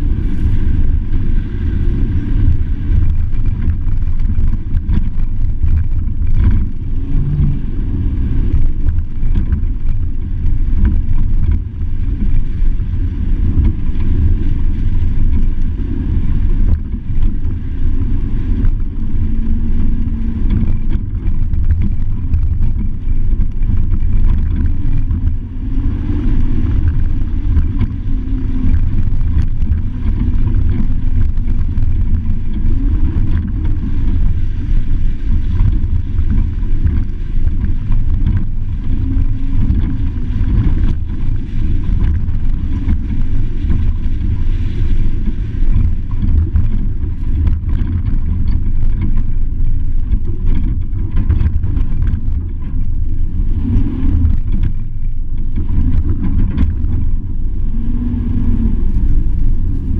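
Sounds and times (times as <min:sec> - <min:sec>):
truck rumble on dirt road: 0:00.0 - 0:59.9.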